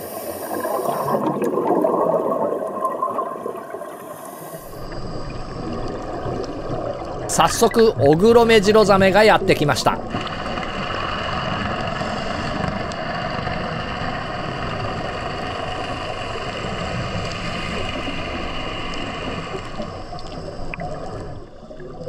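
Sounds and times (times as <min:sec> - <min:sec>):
underwater rushing hiss: 0:00.0 - 0:07.7, 0:08.7 - 0:22.0.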